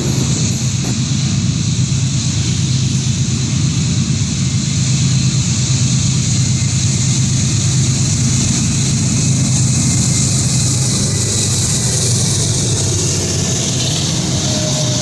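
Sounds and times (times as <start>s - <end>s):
freight train passing: 0.0s - 15.0s.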